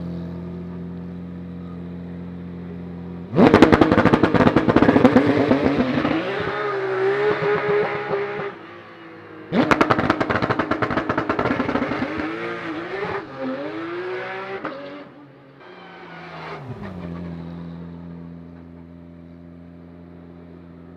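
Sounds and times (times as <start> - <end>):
race car engine running: 0.0 - 20.9
race car launching: 3.3 - 20.2.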